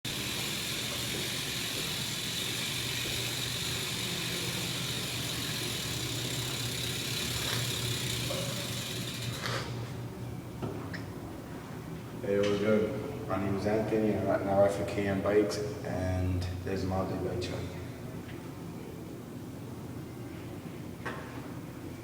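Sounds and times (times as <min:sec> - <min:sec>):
low mechanical hum: 0:00.1 - 0:22.0.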